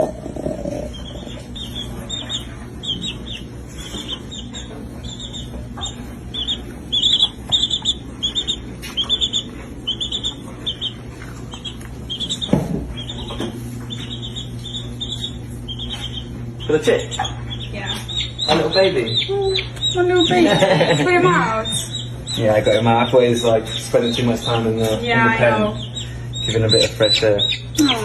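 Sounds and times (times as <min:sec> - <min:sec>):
baby chick peeping: 0:00.0 - 0:28.0.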